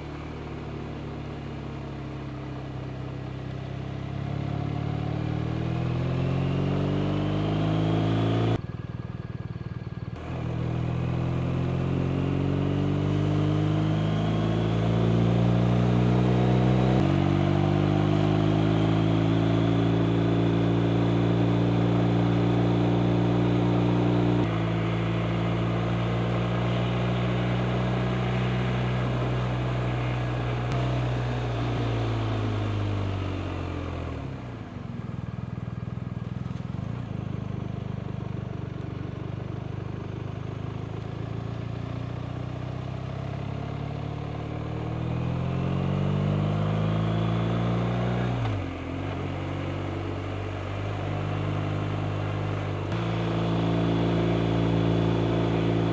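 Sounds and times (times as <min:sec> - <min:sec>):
motorcycle engine revving: 0:00.0 - 0:37.8, 0:39.8 - 0:55.9.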